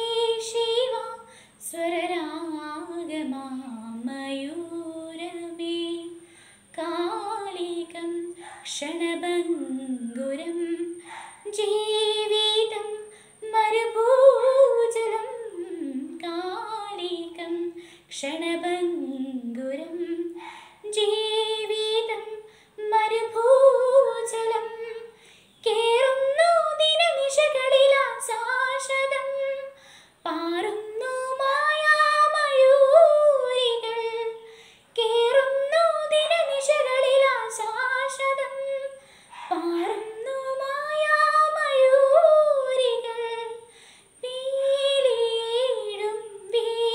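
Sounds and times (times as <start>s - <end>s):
girl singing unaccompanied: 0.0s - 46.9s.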